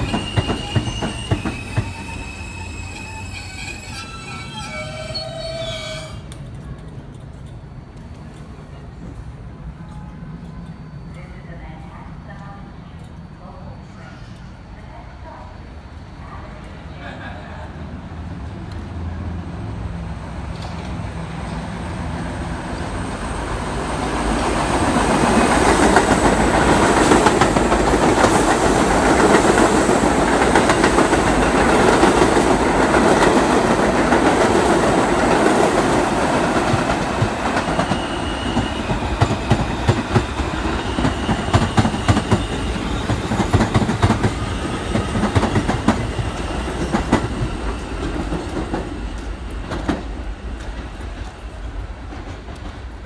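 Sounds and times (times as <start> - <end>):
subway train passing: 0.0 - 53.0.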